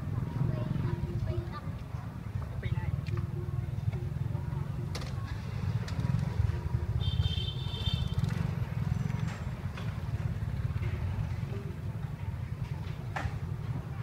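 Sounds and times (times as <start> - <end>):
street background rumble: 0.0 - 14.0.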